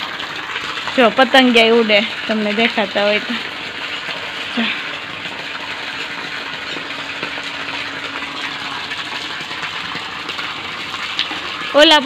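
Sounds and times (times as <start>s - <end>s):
water splashing onto leaves: 0.0s - 12.0s.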